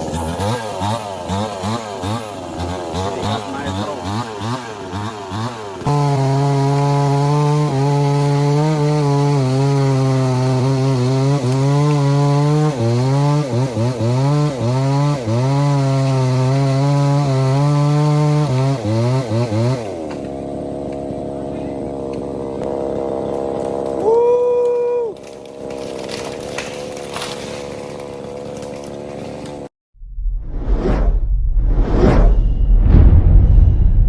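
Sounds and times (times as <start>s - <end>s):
chainsaw cutting wood: 0.0s - 29.7s.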